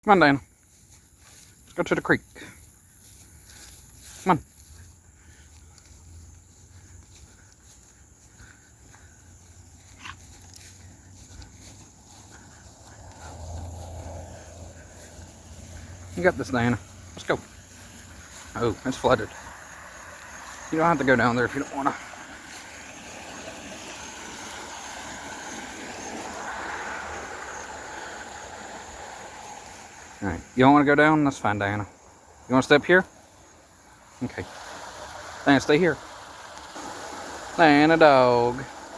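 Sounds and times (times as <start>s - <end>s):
creek water rushing: 0.8s - 38.9s.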